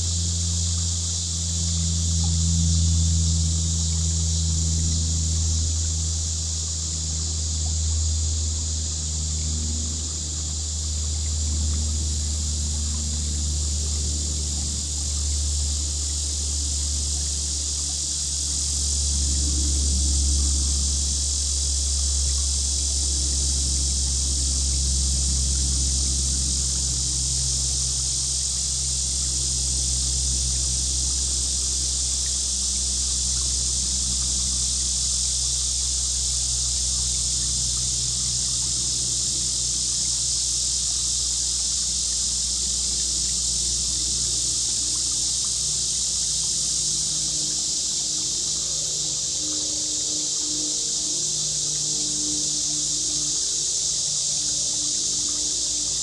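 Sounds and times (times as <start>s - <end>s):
crickets and insects chirping: 0.0s - 56.0s
low steady rumble: 0.0s - 56.0s.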